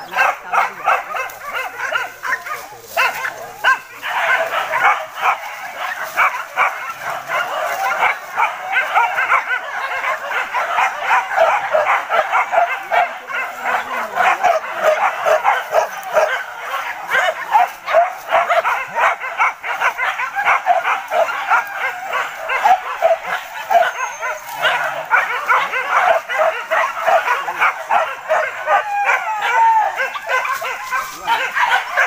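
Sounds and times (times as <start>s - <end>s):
dogs yelping and barking: 0.0s - 32.0s.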